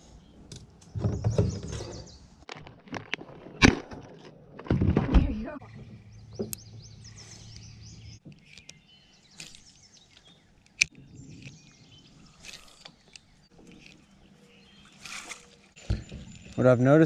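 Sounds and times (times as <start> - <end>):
small birds chirping: 0.0 - 2.4, 5.5 - 17.0.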